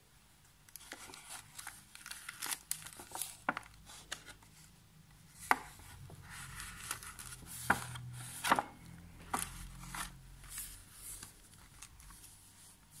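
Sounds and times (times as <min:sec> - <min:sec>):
paper pages rustling: 0:00.7 - 0:04.7, 0:05.3 - 0:13.0.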